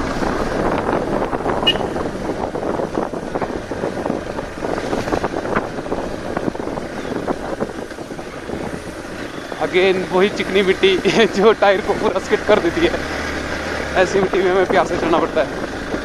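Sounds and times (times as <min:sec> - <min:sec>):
motorcycle engine running: 0:00.0 - 0:16.0
motorcycle knocks and rattles: 0:00.0 - 0:16.0
wind noise on microphone: 0:00.0 - 0:16.0.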